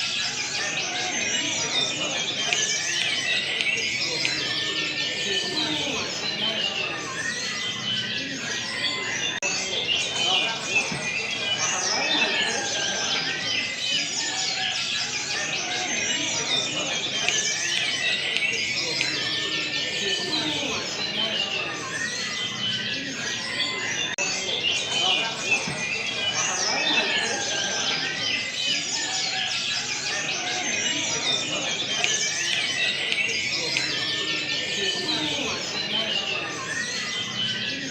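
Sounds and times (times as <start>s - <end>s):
birds chirping and trilling: 0.0s - 37.9s
murmur of voices: 0.0s - 37.9s.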